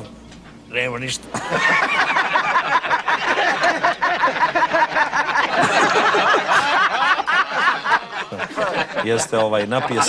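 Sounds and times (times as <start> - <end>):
men laughing loudly: 1.3 - 10.0.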